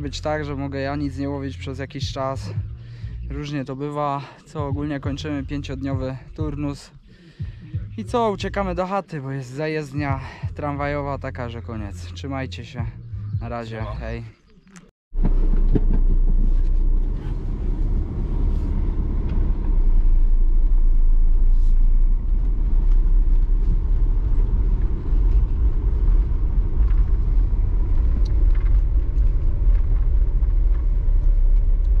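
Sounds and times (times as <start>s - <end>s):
tyres and engine rumbling: 0.0s - 32.0s.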